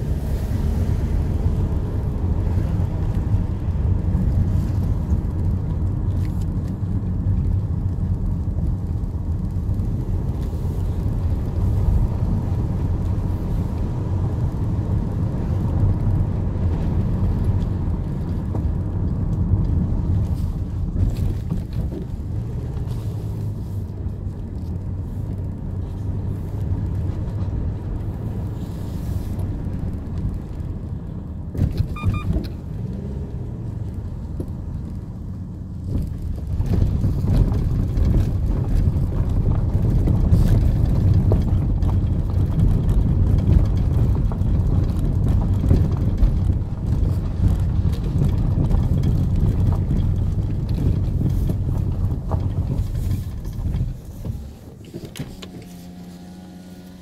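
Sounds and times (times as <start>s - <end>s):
car engine low rumble: 0.0s - 57.0s
road noise: 0.0s - 57.0s.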